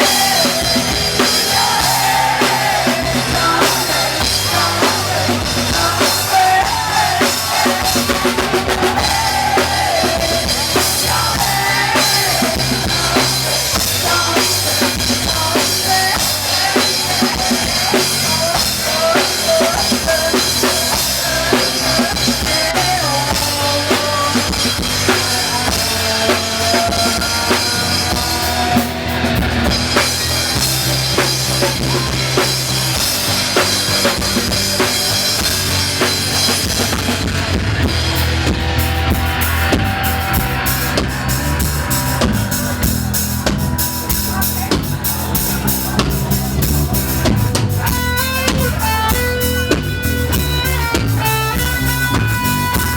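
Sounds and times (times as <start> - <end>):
bass drum and snare beat: 0.0 - 52.9
rock band playing: 0.0 - 52.9.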